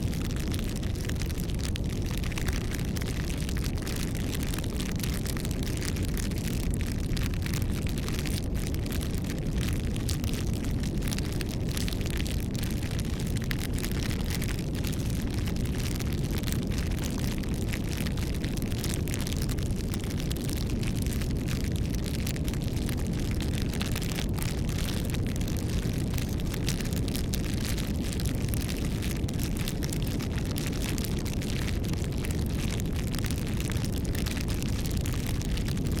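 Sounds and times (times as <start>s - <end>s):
low fire rumble: 0.0s - 36.0s
wood fire crackling and popping: 0.0s - 36.0s.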